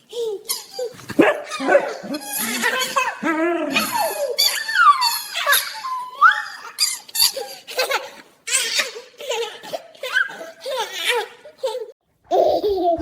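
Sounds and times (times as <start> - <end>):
baby giggling and squealing: 0.0 - 13.0.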